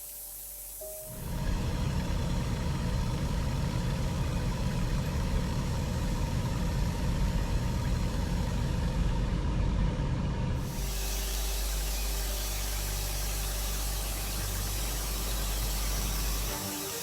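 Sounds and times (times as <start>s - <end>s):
faint motor whine: 0.0s - 17.0s
motor rumbling: 1.1s - 17.0s.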